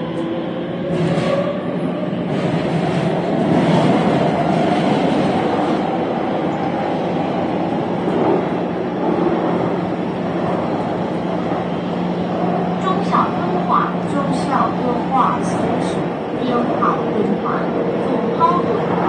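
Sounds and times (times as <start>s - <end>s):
train wheels and motors rumbling: 0.0s - 19.0s.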